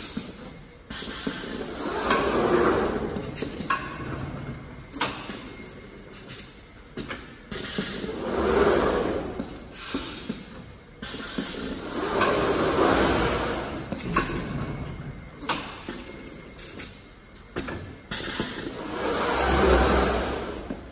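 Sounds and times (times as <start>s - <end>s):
machine running noise: 0.0s - 6.4s, 7.0s - 20.9s.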